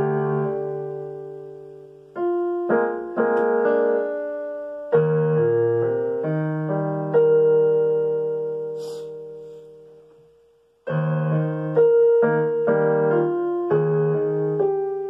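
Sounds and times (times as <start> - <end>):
piano chords on digital keyboard: 0.0 - 15.0.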